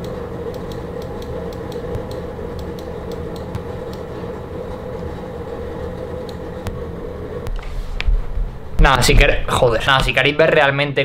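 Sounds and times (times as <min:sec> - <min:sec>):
steady rumbling hum: 0:00.0 - 0:11.0.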